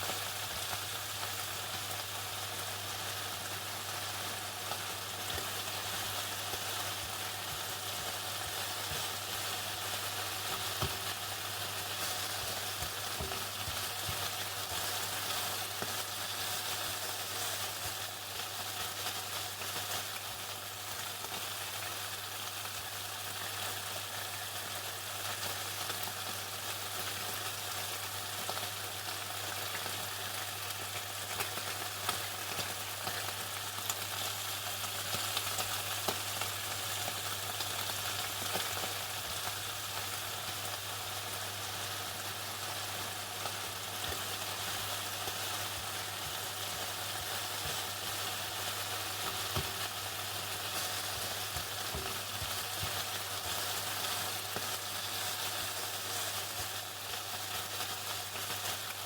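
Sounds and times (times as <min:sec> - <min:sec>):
chicken frying in hot oil: 0:00.0 - 0:59.0.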